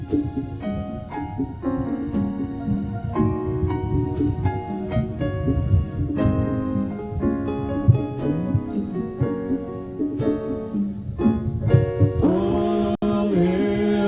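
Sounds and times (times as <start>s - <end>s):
keyboard piano chords: 0.0s - 14.0s.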